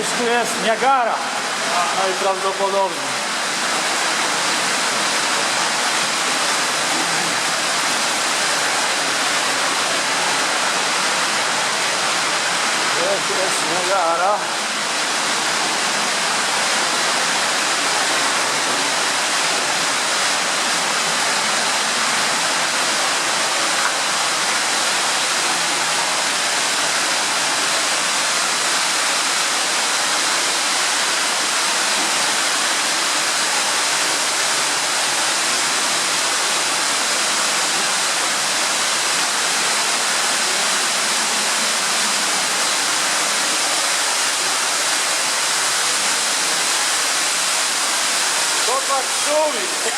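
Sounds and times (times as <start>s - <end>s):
underground waterfall rushing: 0.0s - 49.9s.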